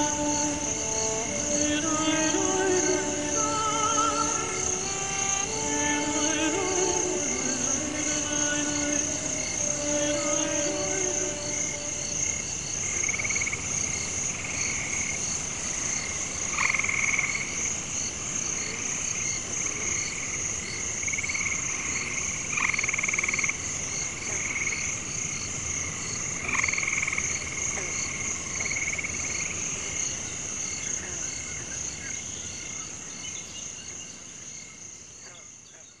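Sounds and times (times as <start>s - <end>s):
high insect trill: 0.0s - 35.3s
frogs croaking: 0.0s - 36.0s.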